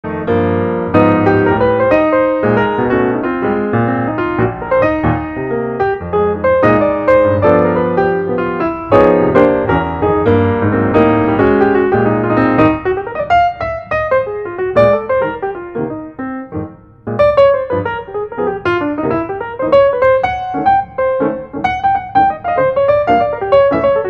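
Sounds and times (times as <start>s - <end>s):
piano intro music: 0.0s - 24.0s.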